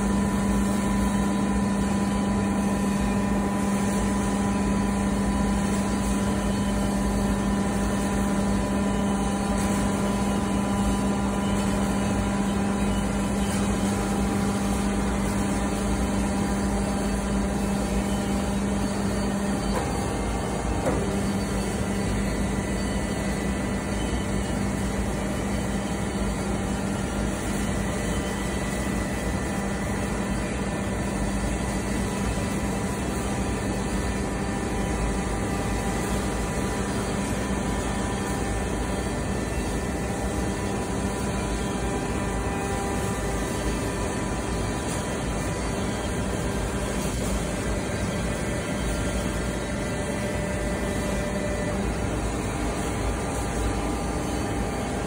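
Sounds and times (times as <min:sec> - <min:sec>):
hydraulic motor and pump humming: 0:00.0 - 0:55.0.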